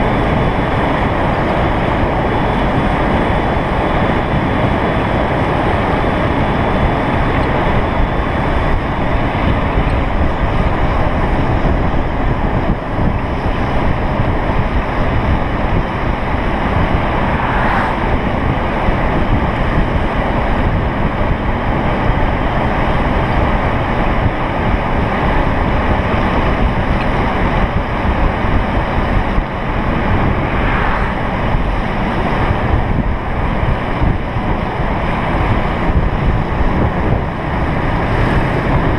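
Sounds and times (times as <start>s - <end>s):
skateboard wheels rolling on asphalt: 0.0s - 38.9s
wind rushing over microphone: 0.0s - 38.9s.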